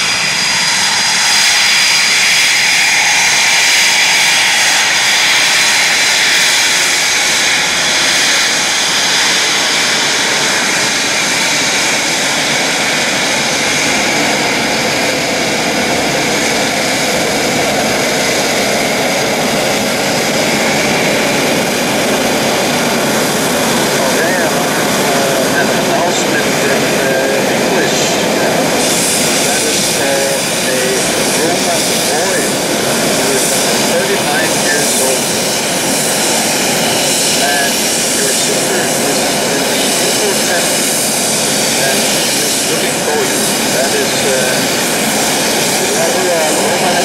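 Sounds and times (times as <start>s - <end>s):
jet engine whine and rush: 0.0s - 47.0s.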